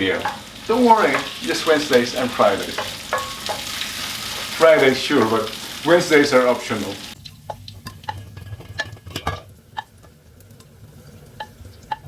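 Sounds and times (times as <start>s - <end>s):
chicken frying in a pan: 0.0s - 12.0s.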